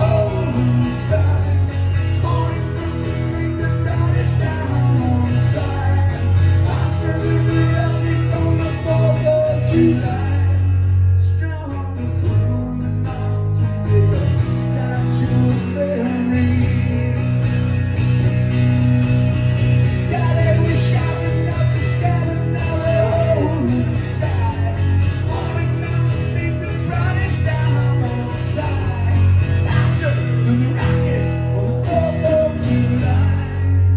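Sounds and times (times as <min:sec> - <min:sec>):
man singing: 0:00.0 - 0:17.9, 0:19.8 - 0:33.9
acoustic guitar strumming: 0:00.0 - 0:33.9
electric bass: 0:00.0 - 0:33.9.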